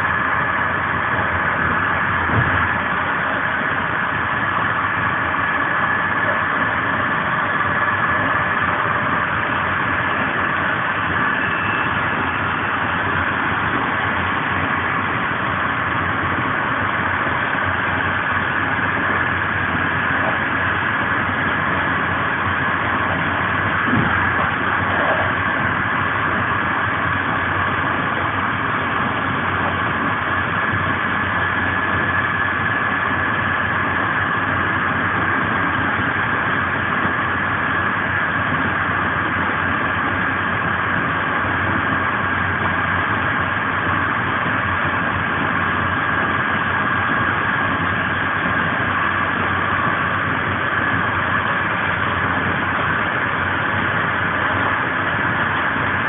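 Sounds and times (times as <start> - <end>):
faint steady whine: 0.0 - 56.0.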